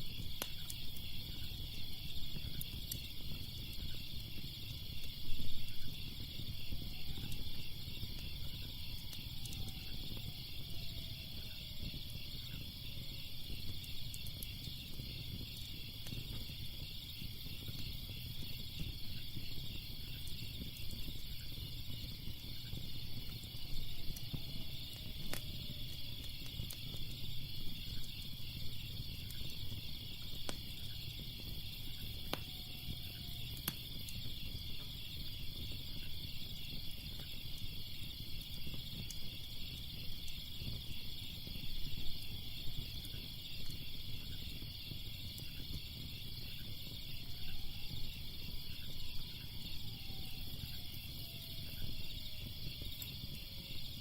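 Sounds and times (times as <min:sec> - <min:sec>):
fire crackling: 0:00.0 - 0:54.0
insects chirring: 0:00.0 - 0:54.0.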